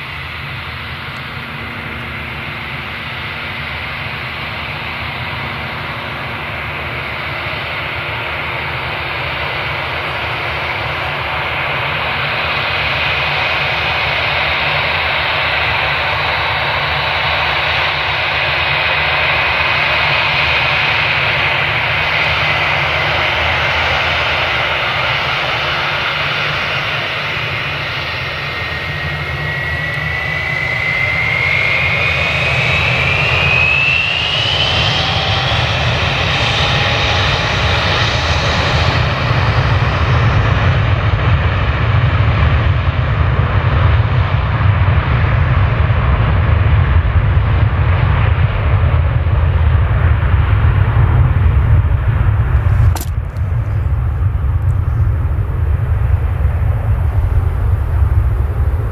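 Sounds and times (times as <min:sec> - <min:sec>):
jet engines whining: 0:00.0 - 0:42.8, 0:47.5 - 0:58.9
deep rumble of takeoff roll: 0:00.0 - 0:58.9.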